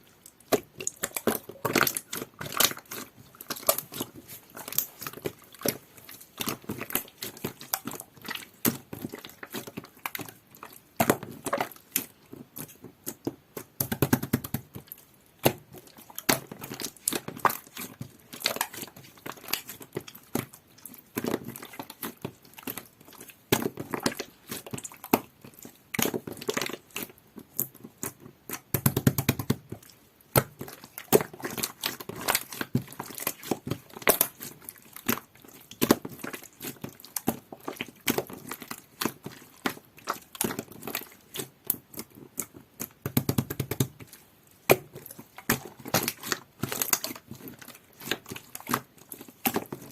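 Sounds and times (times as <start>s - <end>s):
slime squished by hand: 0.1s - 49.9s.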